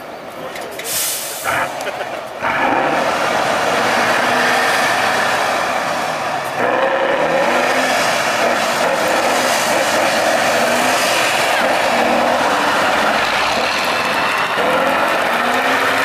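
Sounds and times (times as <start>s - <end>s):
truck engine revving hard: 1.0s - 16.0s.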